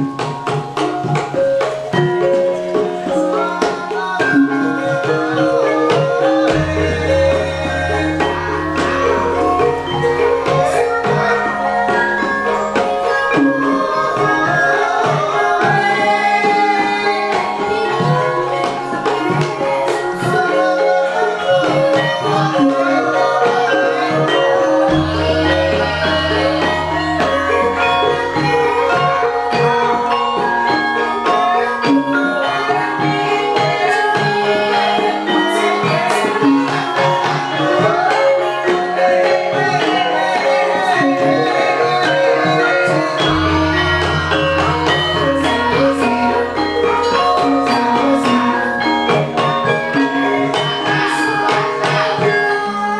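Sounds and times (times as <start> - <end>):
hand drum strokes: 0.0 - 52.9
ringing metallophone notes: 0.0 - 52.9.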